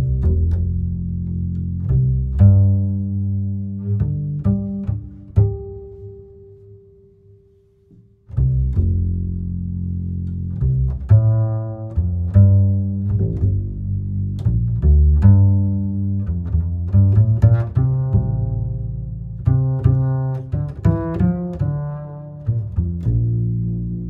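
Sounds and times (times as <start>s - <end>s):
deep plucked bass notes: 0.0s - 7.4s, 8.0s - 24.0s.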